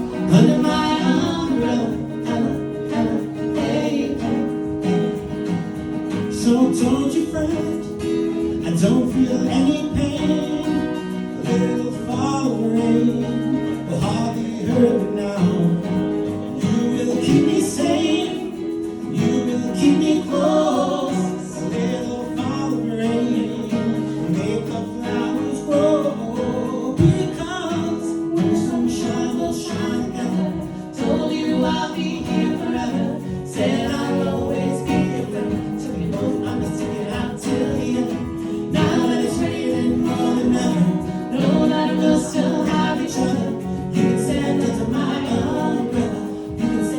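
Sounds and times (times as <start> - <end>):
acoustic guitar: 0.0 - 46.9
voices singing in harmony: 0.0 - 46.9.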